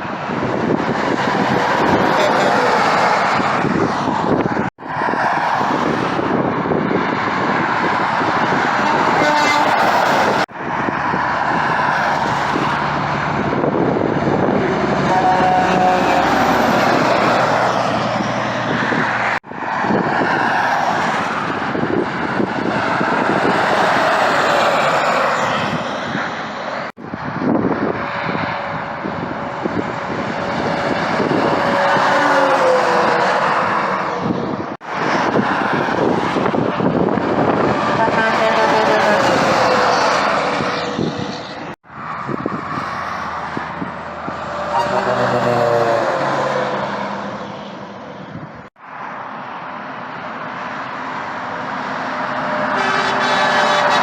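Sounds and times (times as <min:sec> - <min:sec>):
trucks passing on highway: 0:00.0 - 0:54.0.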